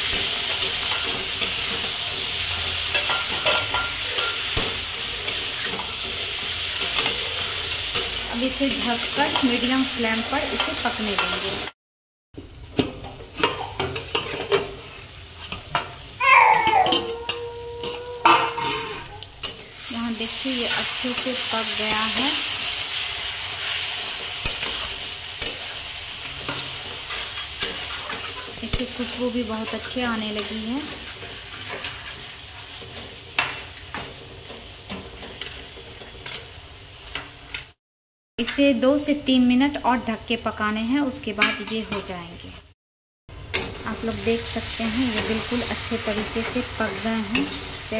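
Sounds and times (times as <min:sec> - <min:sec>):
vegetables sizzling in a pan: 0:00.0 - 0:11.8, 0:12.4 - 0:37.8, 0:43.3 - 0:47.9.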